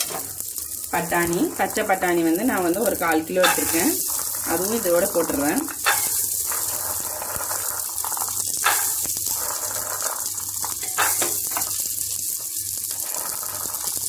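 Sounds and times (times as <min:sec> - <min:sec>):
oil sizzling: 0:00.0 - 0:14.0
peas rattling against pan: 0:00.0 - 0:14.0.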